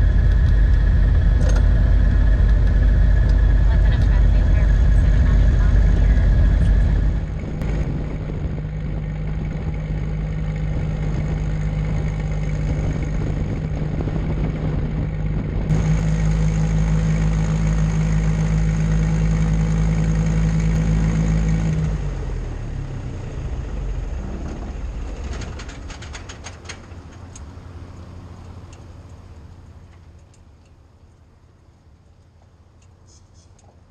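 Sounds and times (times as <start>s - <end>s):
twin-engine propeller plane drone: 0.0s - 33.9s.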